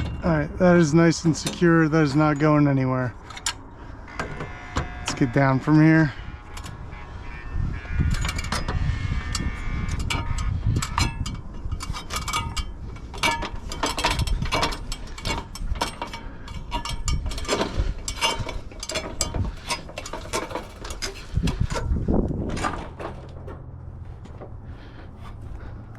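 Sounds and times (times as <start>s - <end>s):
metal ladder clanking and rattling: 0.0s - 6.8s, 8.0s - 25.9s.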